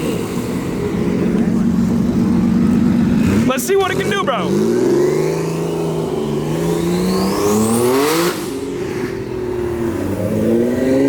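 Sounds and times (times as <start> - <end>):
sports car accelerating hard: 0.0 - 11.0.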